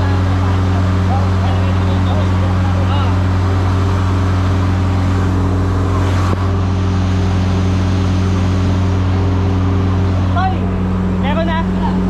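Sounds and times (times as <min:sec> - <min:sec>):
large engine droning: 0:00.0 - 0:12.0.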